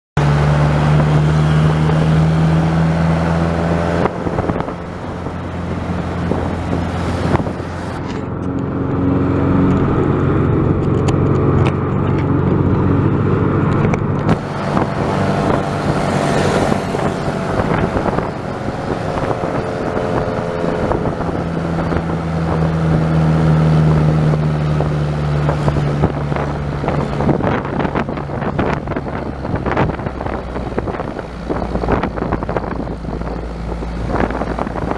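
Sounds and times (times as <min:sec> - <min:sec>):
vehicle engine running: 0:00.0 - 0:34.9
wind noise on microphone: 0:00.2 - 0:34.9.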